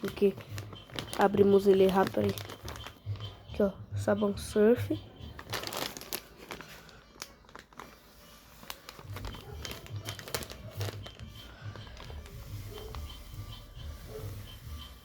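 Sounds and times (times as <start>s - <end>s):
plastic packaging crinkling: 0.0s - 3.6s, 5.0s - 14.9s.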